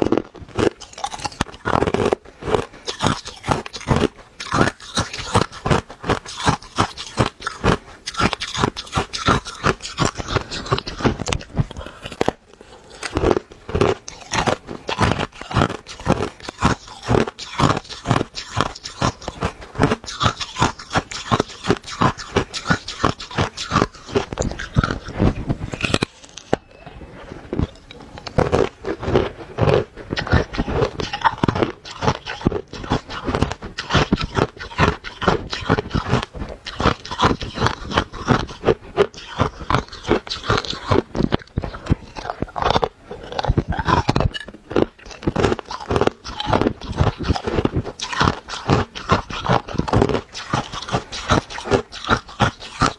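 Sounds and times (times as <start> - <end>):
ice being chewed: 0.0 - 52.9.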